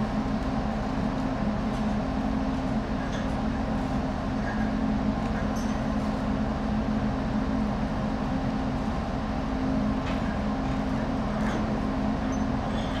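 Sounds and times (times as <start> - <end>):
ship machinery humming: 0.0 - 13.0.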